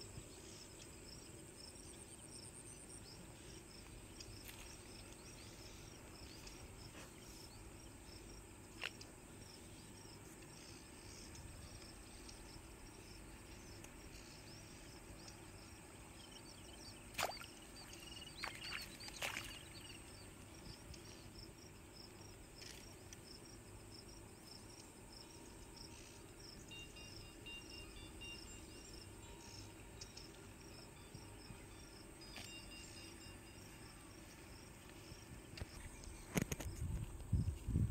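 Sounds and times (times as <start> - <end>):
insects chirping: 0.0 - 37.9.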